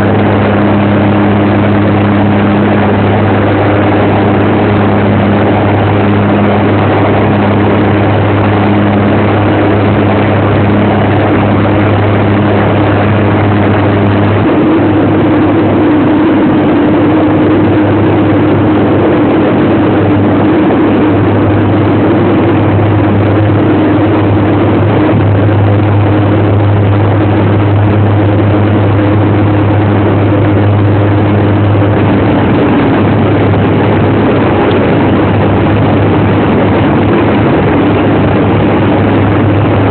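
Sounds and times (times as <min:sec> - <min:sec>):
aircraft engines droning: 0:00.0 - 0:39.9.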